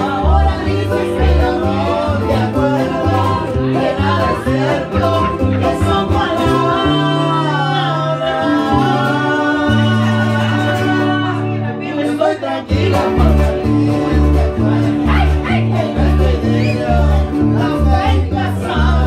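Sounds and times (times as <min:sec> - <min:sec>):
guitars strummed and plucked: 0:00.0 - 0:19.0
woman singing: 0:00.0 - 0:19.0.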